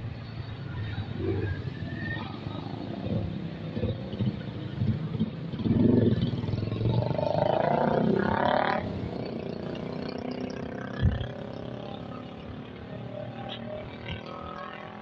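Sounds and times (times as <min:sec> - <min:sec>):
steady traffic hum: 0:00.0 - 0:15.0.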